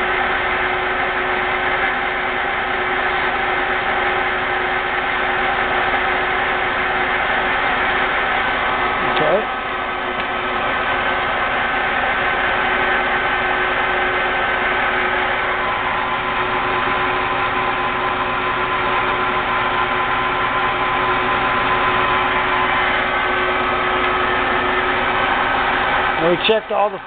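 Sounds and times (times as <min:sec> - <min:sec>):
lathe running with gear whine: 0:00.0 - 0:27.0.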